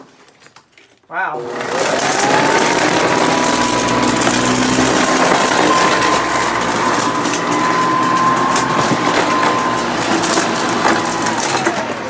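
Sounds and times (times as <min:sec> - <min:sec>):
vacuum cleaner whining: 0:01.3 - 0:12.0
debris rattling through vacuum: 0:01.4 - 0:12.0.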